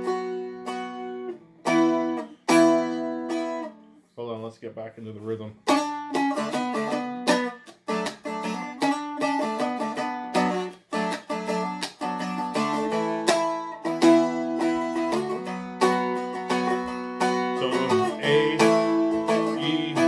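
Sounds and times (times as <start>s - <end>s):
strumstick strummed in rhythm: 0.0s - 4.4s, 5.2s - 20.0s.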